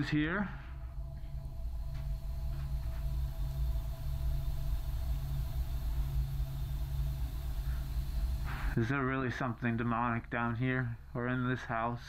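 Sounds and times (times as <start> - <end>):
faint hum: 0.0 - 12.0
low steady rumble: 0.0 - 12.0.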